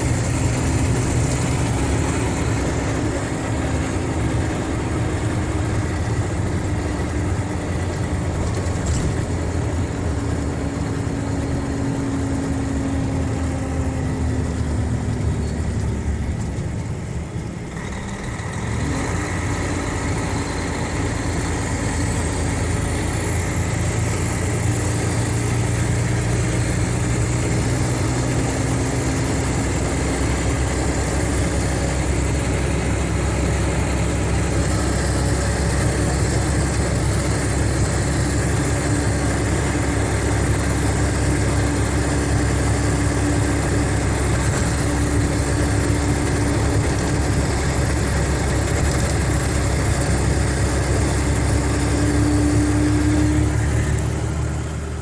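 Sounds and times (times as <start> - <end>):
diesel coach engine running: 0.0 - 55.0.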